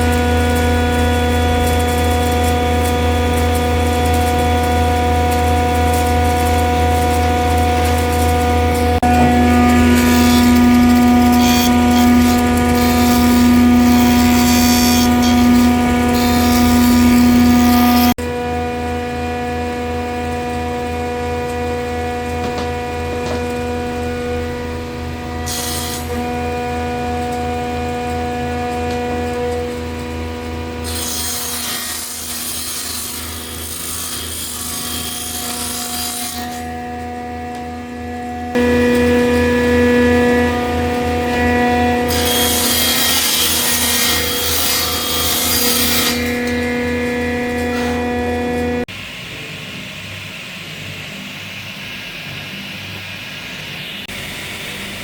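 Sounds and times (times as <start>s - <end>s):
sander abrading wood: 0.0s - 48.9s
electric power tool running: 0.0s - 49.5s.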